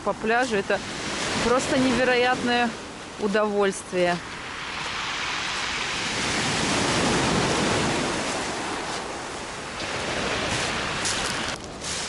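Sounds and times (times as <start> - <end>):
surf washing on shingle beach: 0.0 - 12.0.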